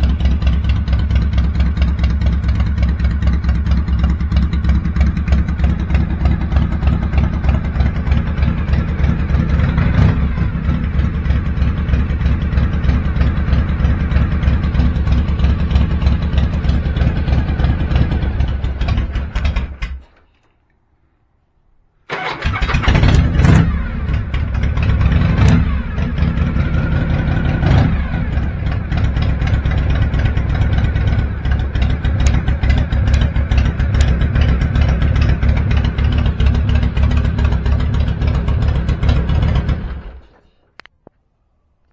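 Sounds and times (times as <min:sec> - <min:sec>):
motorcycle engine idling: 0:00.0 - 0:20.3, 0:22.2 - 0:40.6
motorcycle engine starting and revving: 0:00.0 - 0:20.4, 0:22.1 - 0:40.6.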